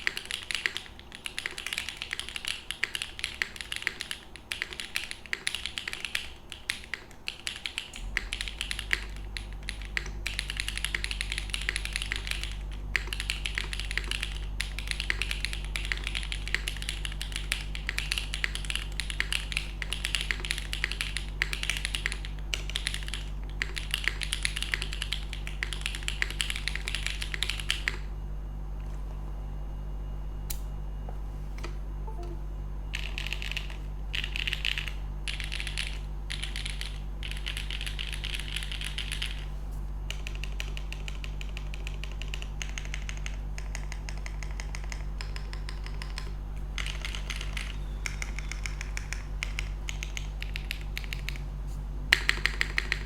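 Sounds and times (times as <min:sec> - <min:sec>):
mechanical keyboard typing clacks: 0:00.0 - 0:28.1, 0:32.1 - 0:39.4, 0:40.1 - 0:51.4, 0:52.1 - 0:53.0
low steady hum: 0:00.0 - 0:53.0.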